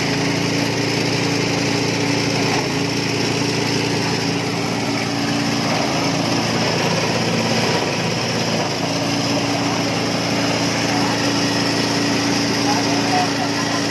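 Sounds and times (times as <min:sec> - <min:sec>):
shredder machine engine running: 0:00.0 - 0:13.9.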